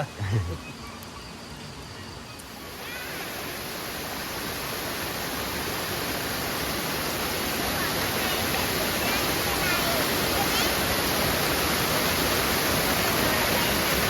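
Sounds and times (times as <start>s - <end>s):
waterfall rushing: 2.4s - 14.0s.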